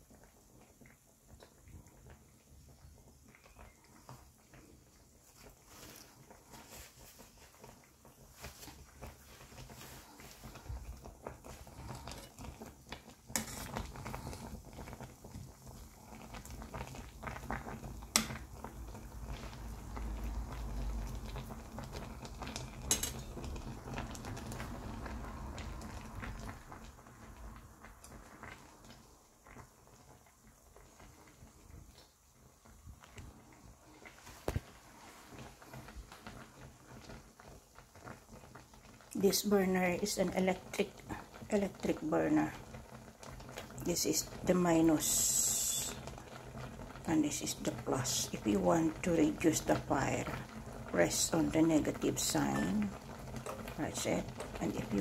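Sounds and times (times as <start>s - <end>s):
pot bubbling: 0.0s - 55.0s
water boiling in saucepan: 0.0s - 55.0s.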